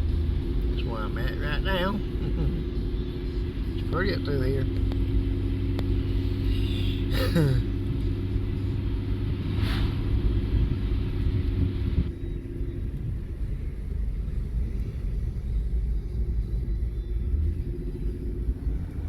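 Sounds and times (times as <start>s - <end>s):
car engine rumble: 0.0s - 19.0s
road noise: 0.0s - 19.0s.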